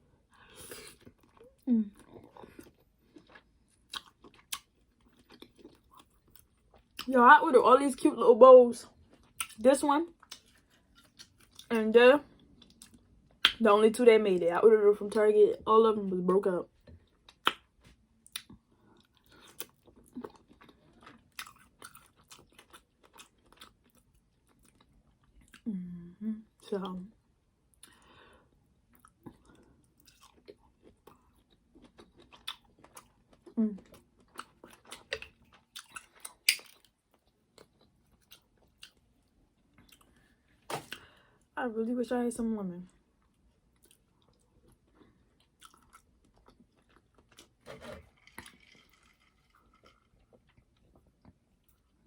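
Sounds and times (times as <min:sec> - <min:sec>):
mouth chewing food: 0:00.4 - 0:07.1, 0:08.9 - 0:13.6, 0:16.8 - 0:26.0, 0:28.8 - 0:41.2, 0:43.2 - 0:52.0.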